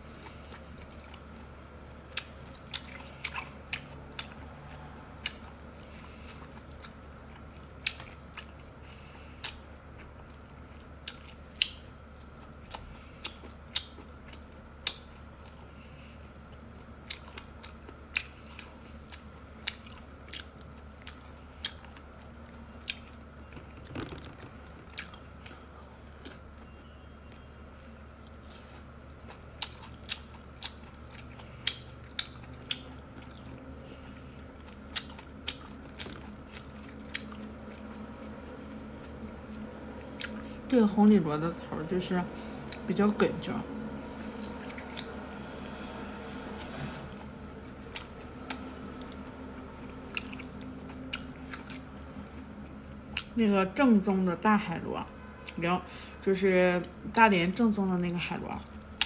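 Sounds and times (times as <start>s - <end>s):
person chewing: 0.0s - 40.6s, 44.0s - 53.4s
faint low steady hum: 0.0s - 59.0s.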